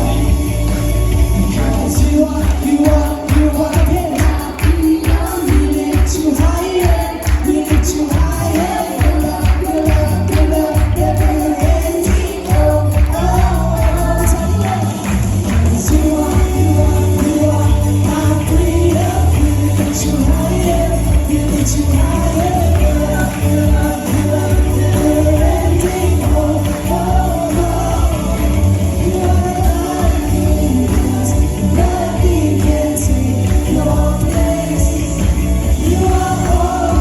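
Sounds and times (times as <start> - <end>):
live worship band music: 0.0 - 37.0
people singing: 0.0 - 37.0.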